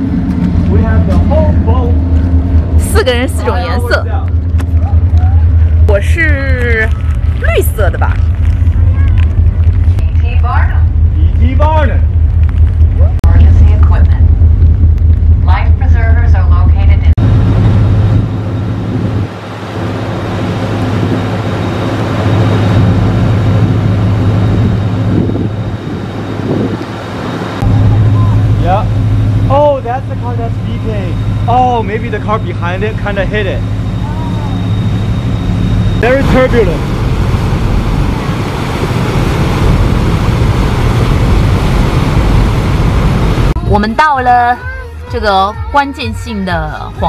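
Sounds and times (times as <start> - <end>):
wind buffeting microphone: 0.0 - 31.4, 36.0 - 43.9
rushing noise: 0.0 - 44.0
vehicle engine humming: 0.0 - 47.0.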